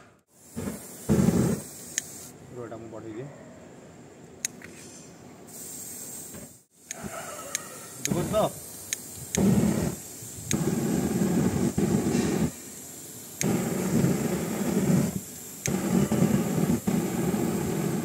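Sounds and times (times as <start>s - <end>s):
flame jet rumbling: 0.2s - 2.3s, 5.5s - 18.0s.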